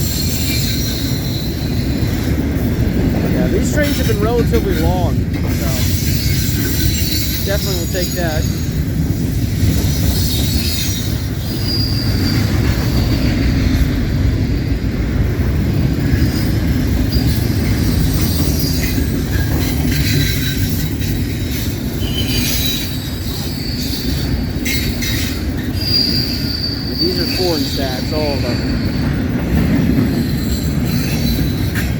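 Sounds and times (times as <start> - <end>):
high wheel squeals: 0.0 - 2.5, 3.4 - 14.2, 16.1 - 31.9
freight train wheels rumbling: 0.0 - 31.9.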